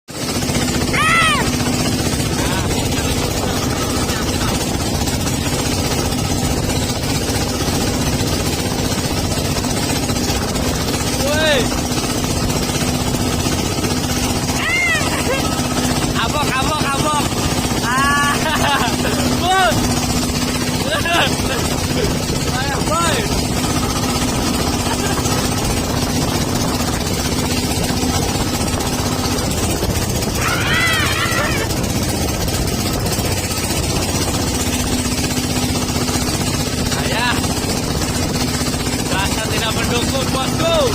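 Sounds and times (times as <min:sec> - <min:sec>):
engine running steadily: 0:00.1 - 0:40.9.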